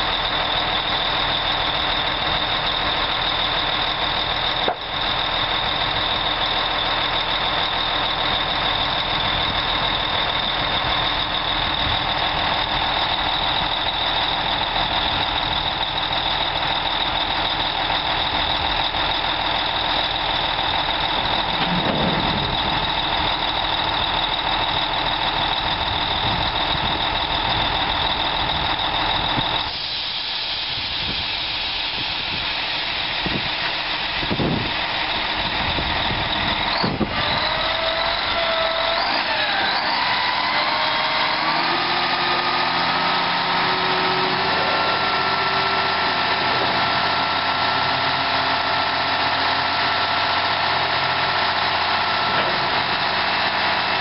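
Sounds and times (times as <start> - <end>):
diesel truck engine idling: 0.0 - 54.0
hydraulic hoist whine: 0.0 - 54.0.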